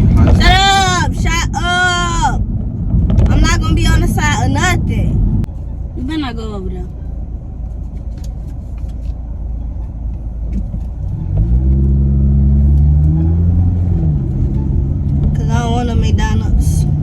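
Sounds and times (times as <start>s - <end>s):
car engine from inside cabin: 0.0s - 17.0s
road rumble: 0.0s - 17.0s.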